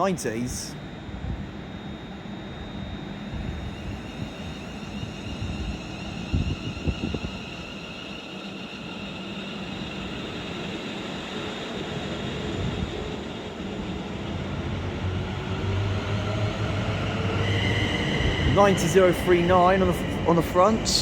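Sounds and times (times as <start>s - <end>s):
freight train rumble: 0.0s - 21.0s.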